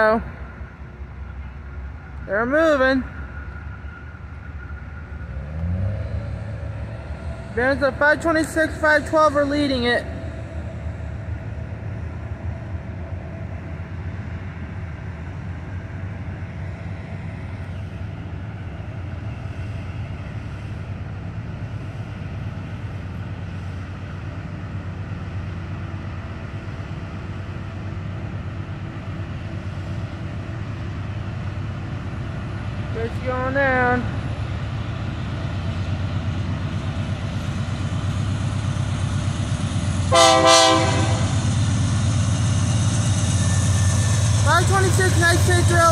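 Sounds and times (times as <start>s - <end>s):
diesel locomotive engine rumble: 0.0s - 45.9s.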